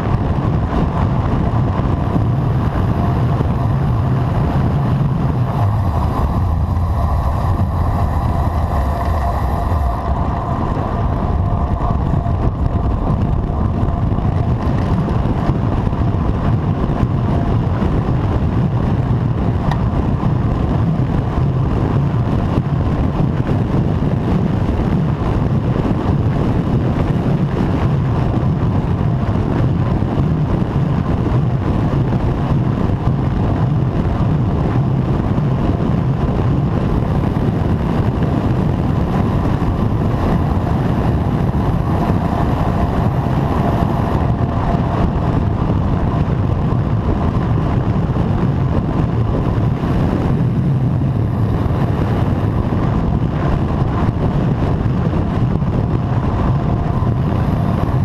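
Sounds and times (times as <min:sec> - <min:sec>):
road noise: 0:00.0 - 0:58.0
wind rumble on microphone: 0:00.0 - 0:58.0.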